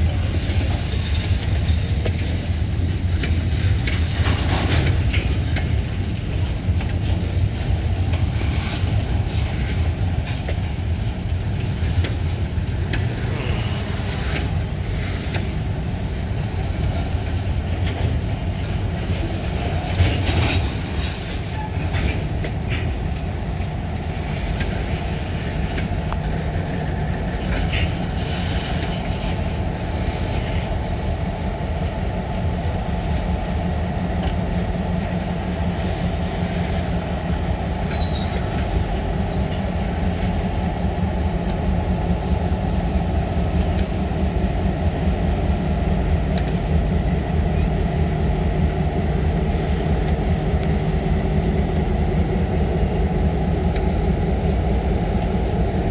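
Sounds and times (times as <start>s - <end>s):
diesel locomotive engine: 0.0s - 55.9s
railroad cars on rails: 0.0s - 55.9s.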